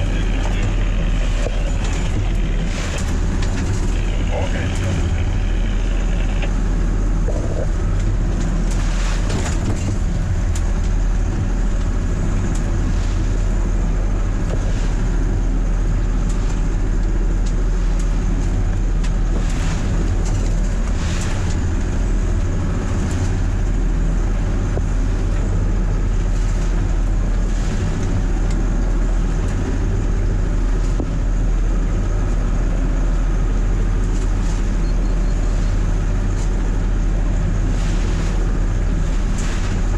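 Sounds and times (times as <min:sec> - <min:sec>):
marine diesel engine running: 0:00.0 - 0:39.9
waves splashing on hull: 0:00.0 - 0:39.9.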